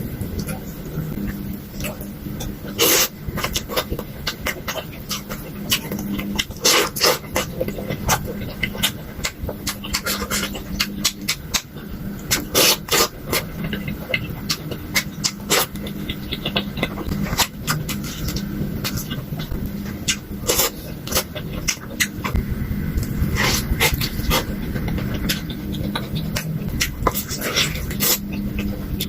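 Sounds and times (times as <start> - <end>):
low steady hum: 0.0 - 29.0
wet chewing: 0.4 - 29.0.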